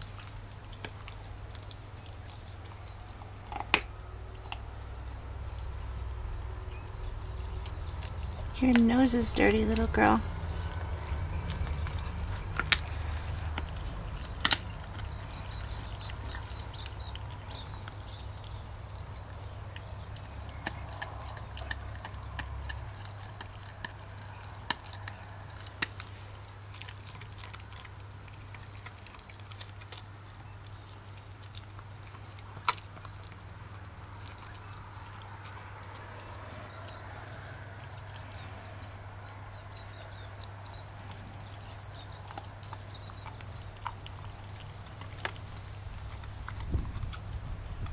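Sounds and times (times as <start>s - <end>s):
bone crunching: 0.0s - 47.9s
puppy chewing wetly: 0.0s - 47.9s.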